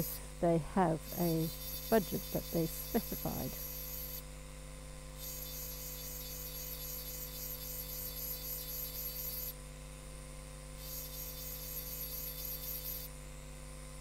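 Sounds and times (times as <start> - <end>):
rotary tool motor humming: 0.0 - 13.8.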